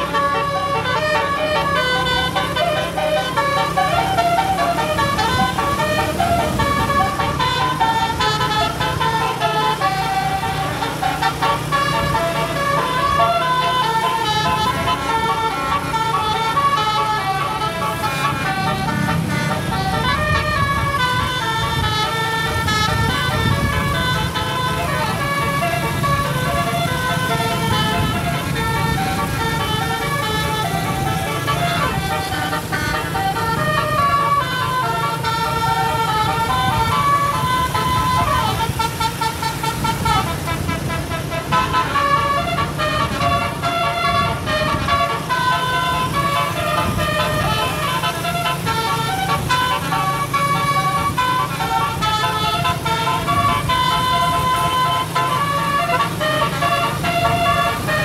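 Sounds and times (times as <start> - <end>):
bus engine running: 0.0 - 58.0
multi-tone air horn melody: 0.0 - 58.0.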